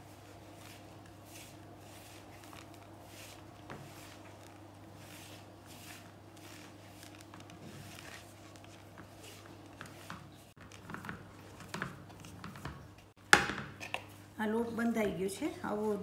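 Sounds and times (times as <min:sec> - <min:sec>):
hands kneading dough: 0:00.0 - 0:13.2.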